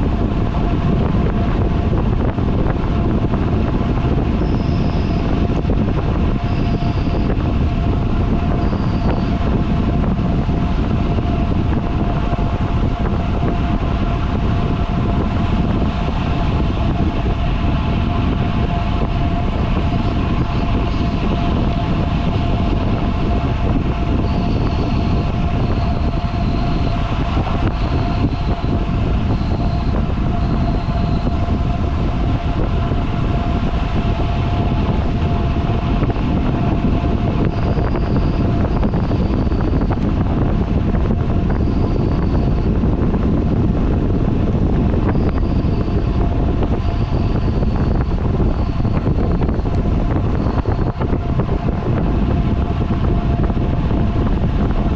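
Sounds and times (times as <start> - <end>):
steady tone: 0.0 - 54.9
wind on microphone: 0.0 - 54.9.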